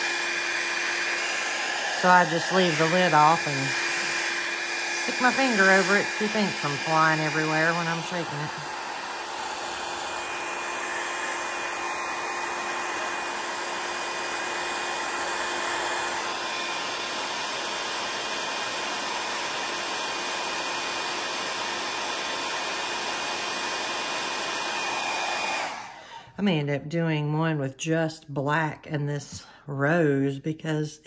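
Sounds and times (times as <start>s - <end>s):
hair dryer blowing: 0.0s - 26.4s.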